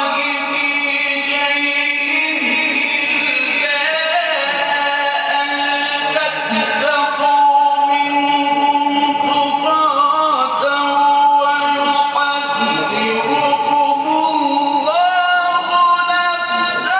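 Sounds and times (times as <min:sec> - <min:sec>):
man chanting: 0:00.0 - 0:16.9.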